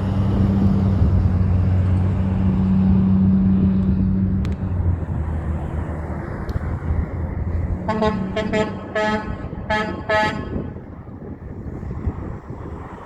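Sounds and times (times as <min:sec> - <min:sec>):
heavy truck engine droning: 0:00.0 - 0:13.0.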